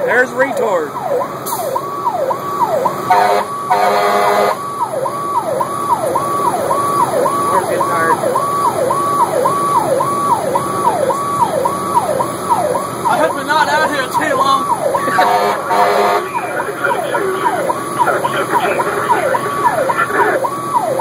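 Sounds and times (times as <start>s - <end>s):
engine and road noise: 0.0s - 21.0s
pulsing horn-like siren tone: 0.0s - 21.0s
siren yelping: 0.0s - 21.0s.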